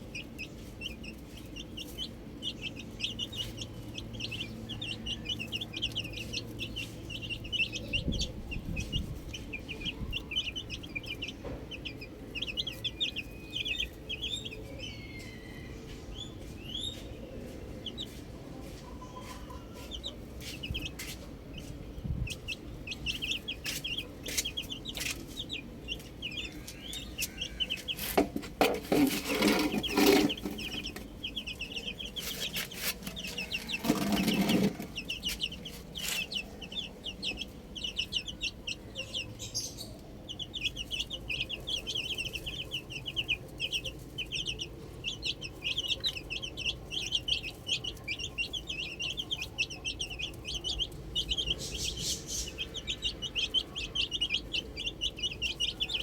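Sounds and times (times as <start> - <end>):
chicken clucking: 0.0 - 56.0
chicks peeping: 0.0 - 56.0.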